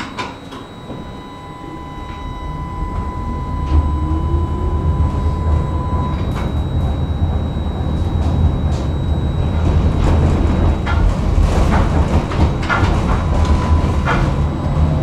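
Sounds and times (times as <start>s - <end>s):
motor whine: 0.0s - 15.0s
steady high tone: 0.0s - 15.0s
tram running gear rumble: 0.6s - 15.0s
wheels clicking over rails: 2.1s - 15.0s.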